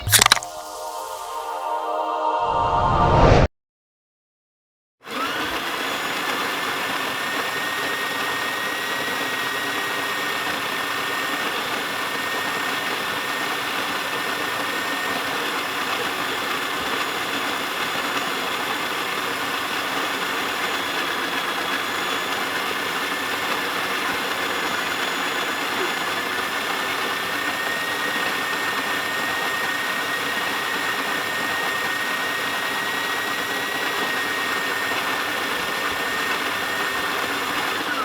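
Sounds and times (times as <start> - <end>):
electric coffee grinder grinding: 0.0 - 0.4, 5.0 - 38.0.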